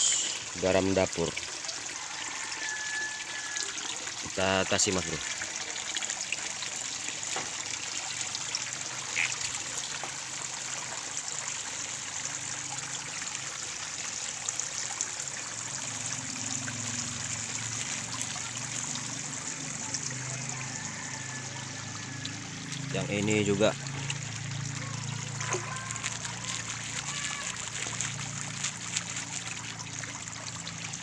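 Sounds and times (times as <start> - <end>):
water jets splashing into pond: 0.0 - 31.0.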